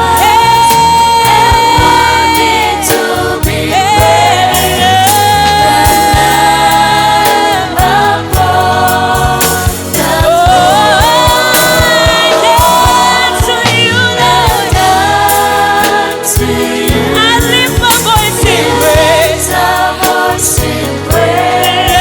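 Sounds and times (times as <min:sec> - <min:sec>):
band with steady drum beat: 0:00.0 - 0:22.0
gospel choir singing: 0:00.0 - 0:22.0.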